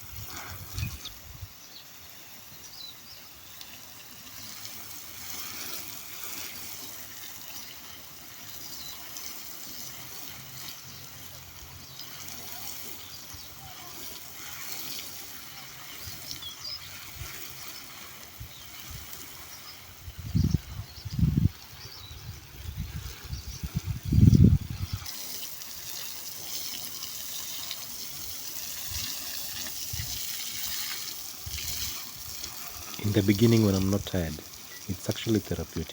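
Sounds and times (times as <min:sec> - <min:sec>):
water trickling: 0:00.0 - 0:35.9.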